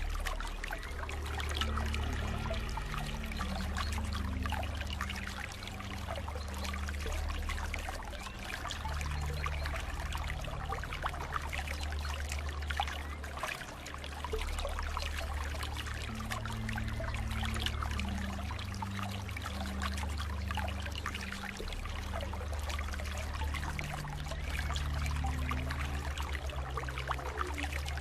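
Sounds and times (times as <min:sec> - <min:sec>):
water flowing and trickling: 0:00.0 - 0:28.0.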